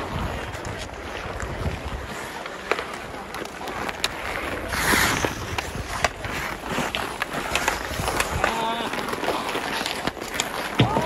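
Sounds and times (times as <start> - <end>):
ice skates scraping on ice: 0.0 - 11.0
hockey sticks clicking on puck: 0.5 - 11.0.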